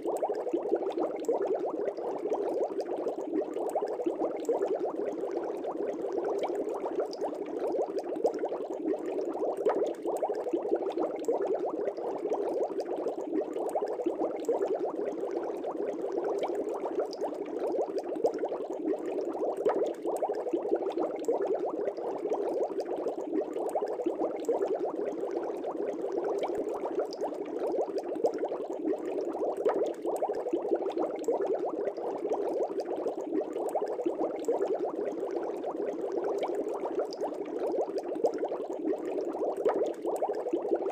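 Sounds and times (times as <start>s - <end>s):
fish tank air bubbles: 0.0s - 40.9s.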